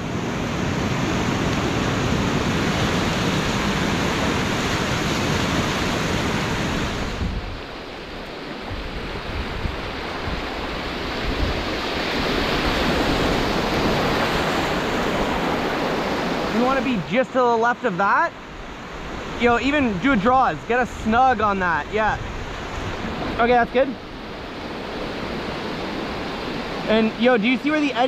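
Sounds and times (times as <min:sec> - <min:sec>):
whitewater rapids roaring: 0:00.0 - 0:28.0.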